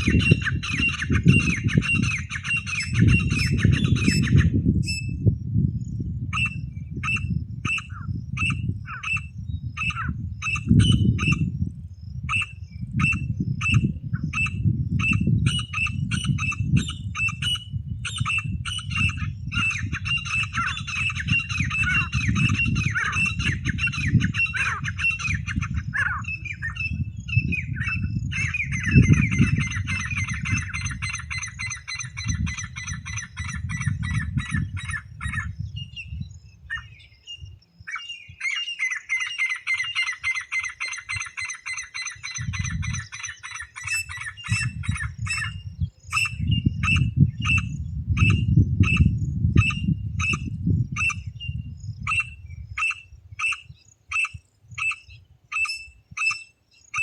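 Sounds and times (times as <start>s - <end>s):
francolin calling: 0.0s - 5.3s, 6.3s - 57.0s.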